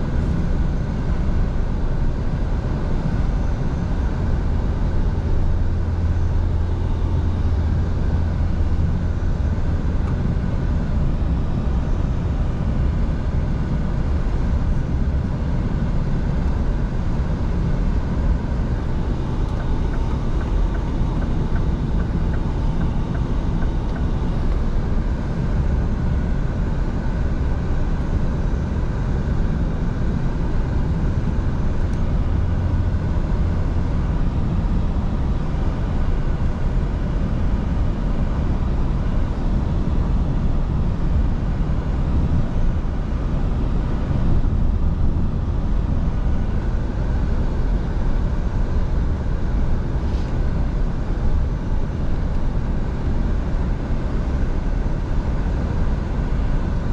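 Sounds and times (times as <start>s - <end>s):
road and tyre noise: 0.0s - 56.9s
truck engine drone: 0.0s - 56.9s.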